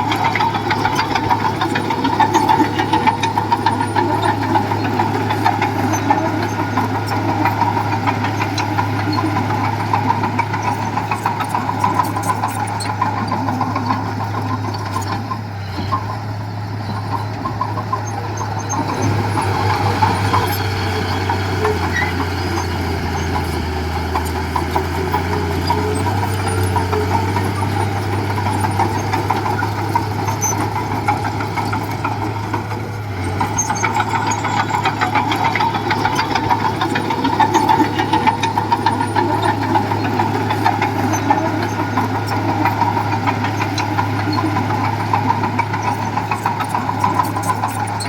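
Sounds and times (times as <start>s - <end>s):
heavy machinery diesel engine: 0.0s - 48.0s.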